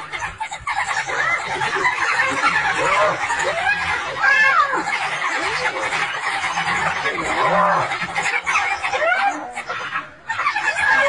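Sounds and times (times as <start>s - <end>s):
wild dogs yelping and twittering: 0.0s - 11.0s.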